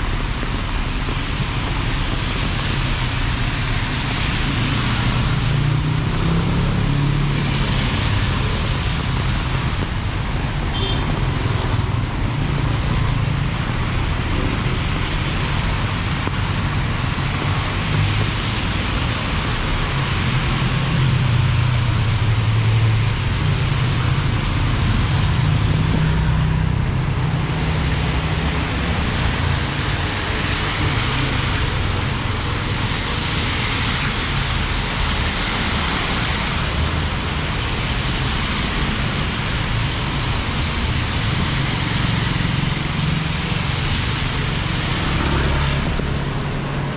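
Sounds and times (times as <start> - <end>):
heavy rain hissing: 0.0 - 46.9
road traffic rumble: 0.0 - 46.9.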